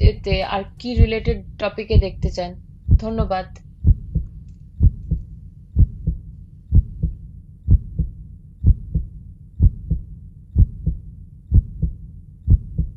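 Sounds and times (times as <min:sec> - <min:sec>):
heartbeat thumping: 0:00.0 - 0:12.9.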